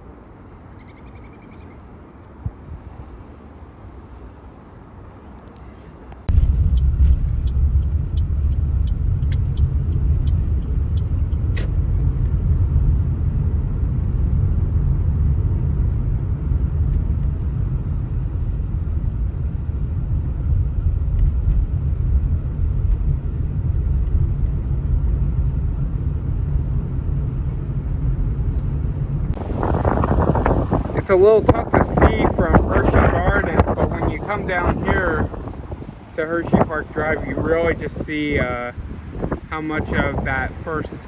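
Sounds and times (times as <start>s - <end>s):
wind buffeting microphone: 2.3s - 3.2s, 5.9s - 41.0s.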